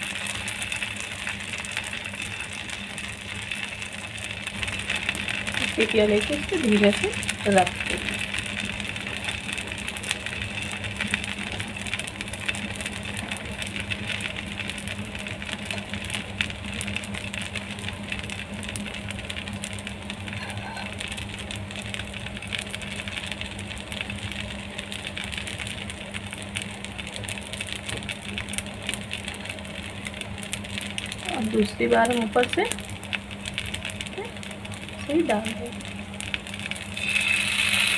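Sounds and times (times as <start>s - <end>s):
batter sizzling in oil: 0.0s - 37.9s
low mechanical hum: 0.0s - 37.9s.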